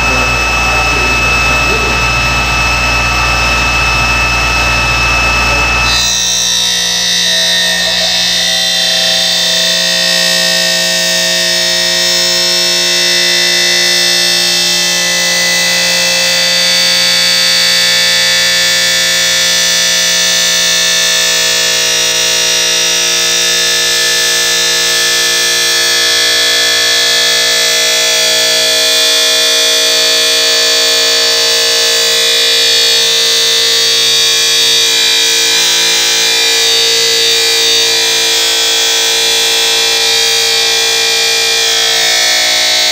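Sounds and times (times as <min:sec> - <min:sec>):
abrasive cut-off disc whining: 0:00.0 - 0:42.9.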